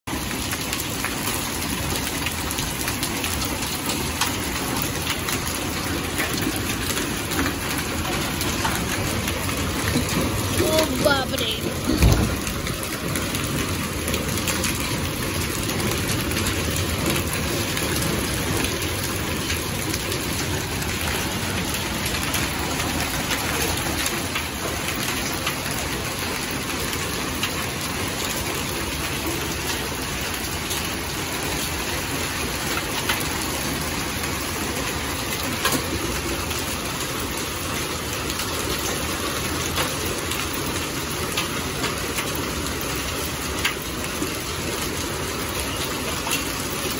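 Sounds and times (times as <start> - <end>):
heavy rain on paving: 0.0 - 46.9
hailstones striking: 0.1 - 46.9.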